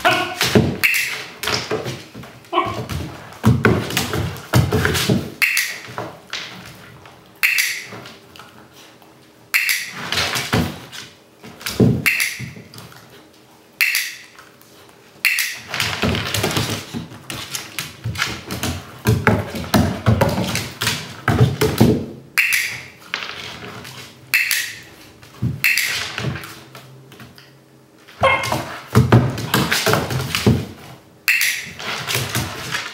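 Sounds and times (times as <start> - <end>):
dog paws on wooden floor: 0.0 - 13.7, 14.3 - 22.1, 22.7 - 27.4, 28.0 - 32.9.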